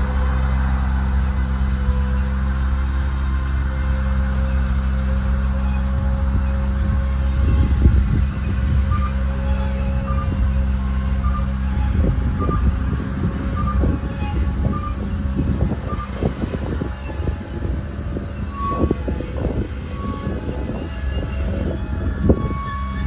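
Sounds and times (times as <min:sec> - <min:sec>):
train low rumble: 0:00.0 - 0:23.0
wheels squealing on rail: 0:00.0 - 0:23.0.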